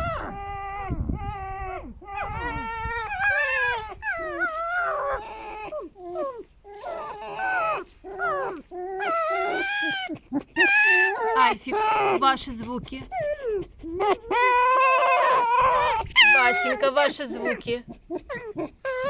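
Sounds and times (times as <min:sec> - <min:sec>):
foxes squealing: 0:00.0 - 0:19.0.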